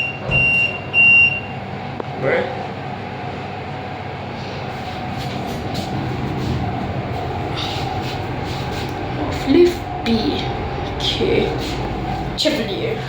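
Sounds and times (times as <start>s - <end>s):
lift rumbling and humming: 0.0s - 13.0s.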